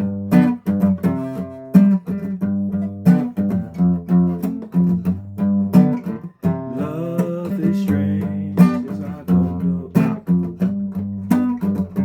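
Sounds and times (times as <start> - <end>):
guitar strummed chords: 0.0 - 12.0.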